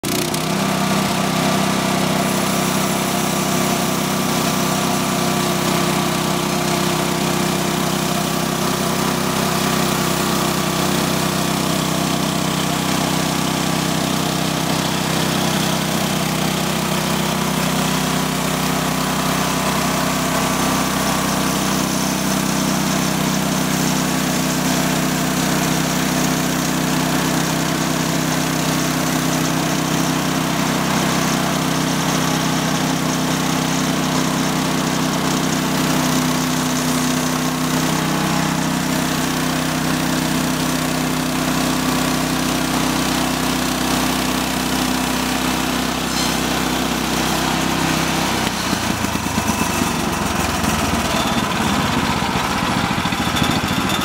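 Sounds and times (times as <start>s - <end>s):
band saw cutting log: 0.0s - 54.0s
petrol engine running: 0.0s - 54.0s.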